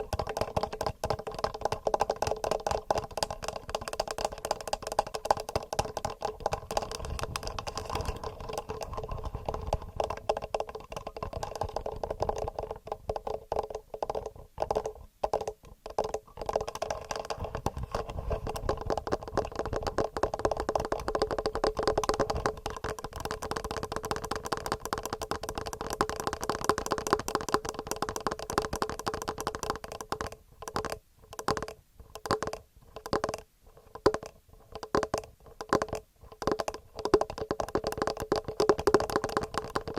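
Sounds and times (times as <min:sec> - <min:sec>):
fingernails tapping microphone: 0:00.0 - 0:39.9.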